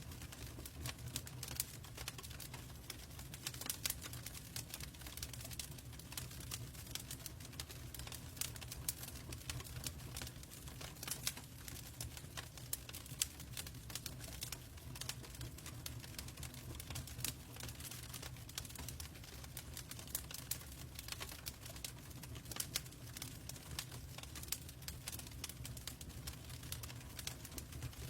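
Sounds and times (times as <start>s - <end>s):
fire crackling and popping: 0.0s - 28.0s
low fire rumble: 0.0s - 28.0s.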